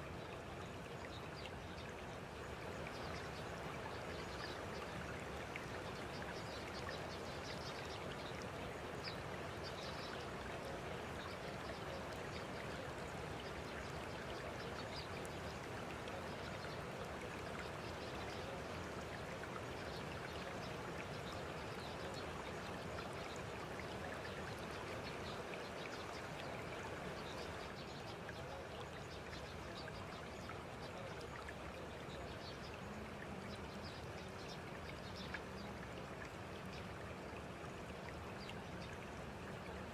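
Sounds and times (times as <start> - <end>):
water-like rushing noise: 0.0 - 39.9.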